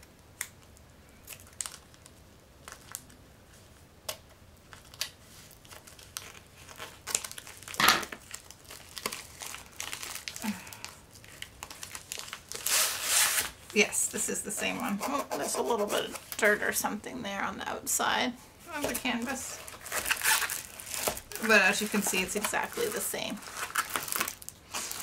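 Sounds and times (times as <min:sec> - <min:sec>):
plastic packaging crinkling: 0:00.4 - 0:14.2, 0:18.7 - 0:25.0.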